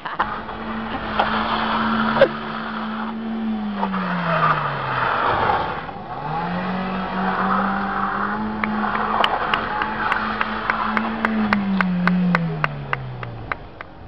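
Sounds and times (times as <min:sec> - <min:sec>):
car engine at high revs: 0:00.0 - 0:14.0
tyres skidding: 0:00.0 - 0:14.0.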